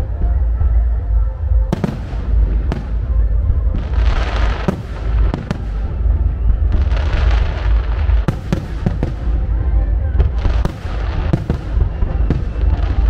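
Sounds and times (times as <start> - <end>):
low rumble: 0.0 - 13.0
dense firework crackling: 1.7 - 13.0
firework booms: 1.7 - 13.0.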